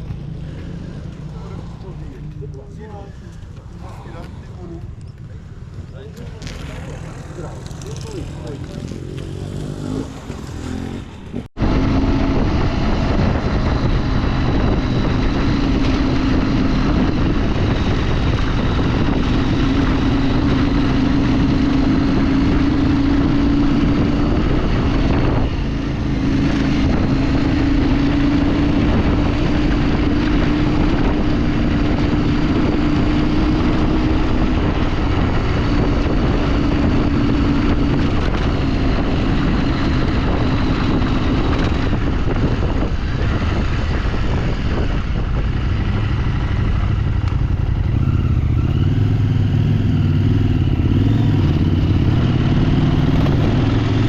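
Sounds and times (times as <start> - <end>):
motorcycle engine running: 4.8 - 54.0
wind on microphone: 6.4 - 54.0.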